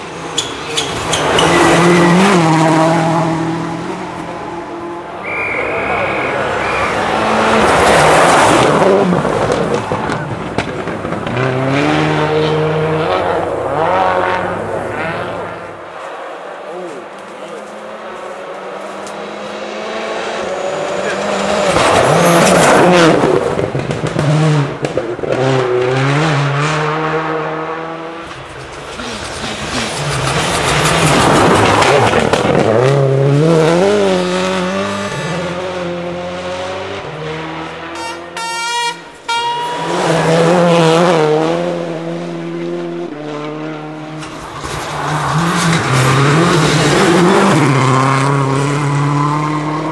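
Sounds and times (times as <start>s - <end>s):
rally car engine revving: 0.0s - 15.9s, 17.7s - 49.9s.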